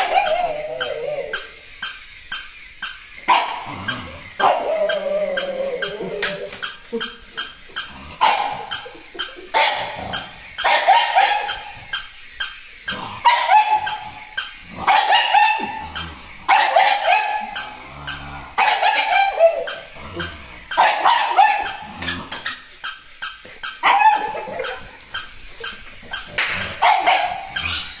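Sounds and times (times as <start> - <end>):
fast clicking of walking mechanism: 0.0 - 28.0
toy dog barking: 0.0 - 28.0.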